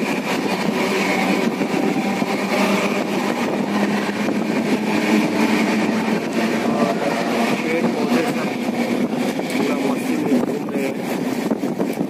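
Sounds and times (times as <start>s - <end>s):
train wheels running on track: 0.0s - 12.0s.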